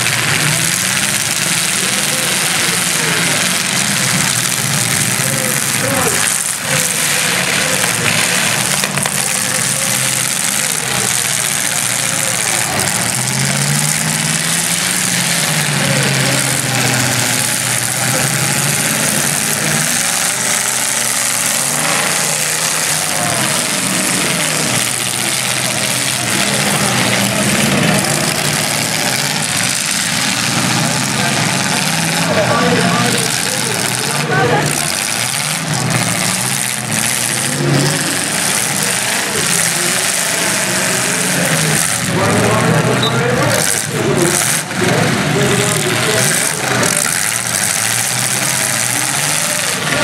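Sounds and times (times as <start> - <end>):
car engines running together: 0.0 - 50.0.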